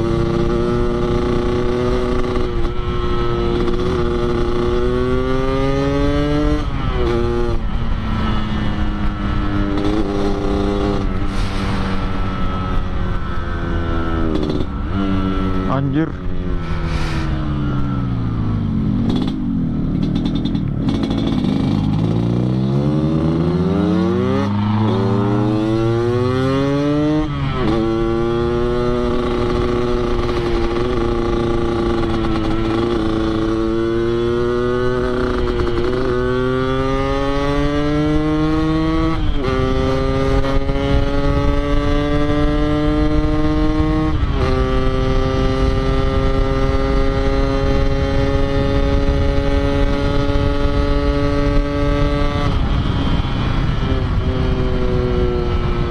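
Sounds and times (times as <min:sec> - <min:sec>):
two-stroke motorcycle engine accelerating: 0:00.0 - 0:55.9.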